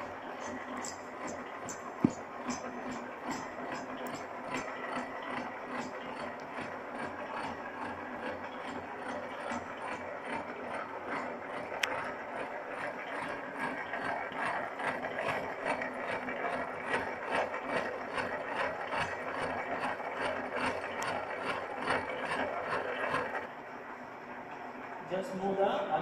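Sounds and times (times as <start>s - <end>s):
milling machine clatter: 0.0s - 23.5s.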